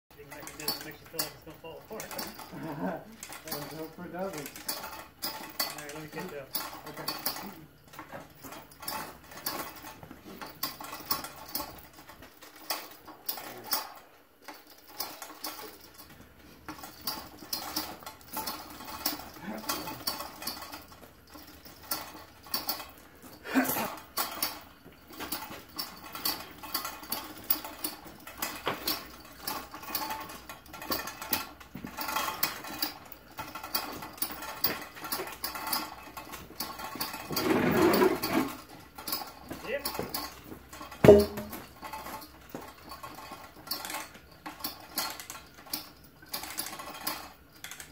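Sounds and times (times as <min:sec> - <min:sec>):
chain hoist clicking and rattling: 0:00.1 - 0:47.9.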